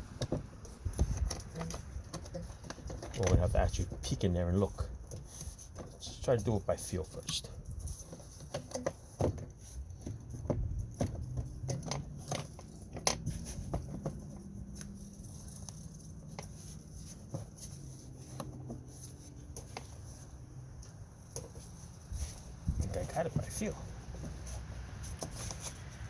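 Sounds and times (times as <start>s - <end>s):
plastic cover clicking and rubbing: 0.1s - 4.2s, 7.1s - 26.0s.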